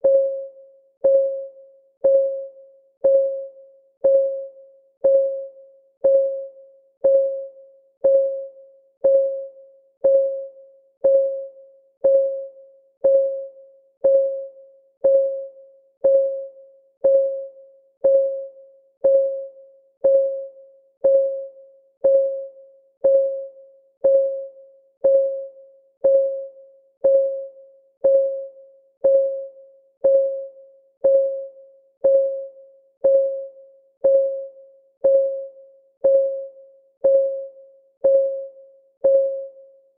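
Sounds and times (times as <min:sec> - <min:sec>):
timer clock ticking: 0:07.0 - 0:39.5.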